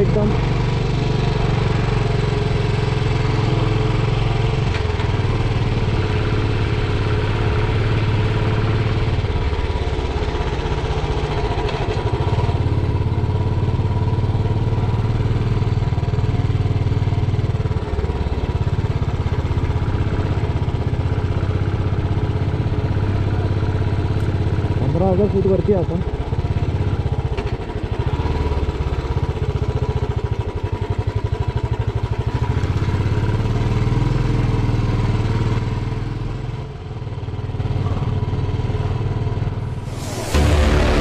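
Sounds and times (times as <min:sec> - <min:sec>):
motorcycle engine running: 0:00.0 - 0:41.0
wind and road noise: 0:00.0 - 0:41.0.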